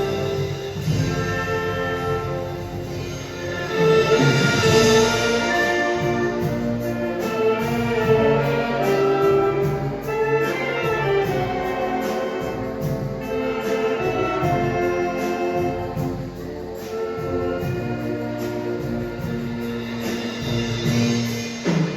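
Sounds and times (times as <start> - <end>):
brass melody: 0.0 - 21.9
steady drum beat: 0.0 - 21.9.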